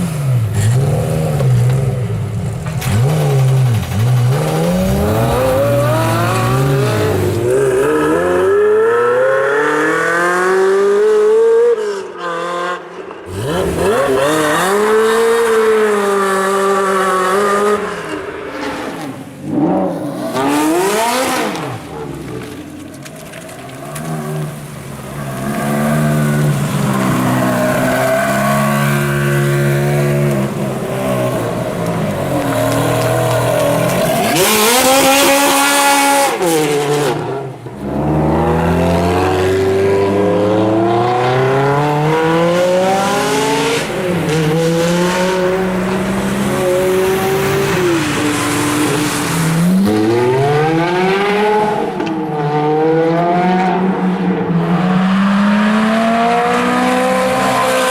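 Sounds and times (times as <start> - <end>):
car engine revving and accelerating: 0.0 - 57.9.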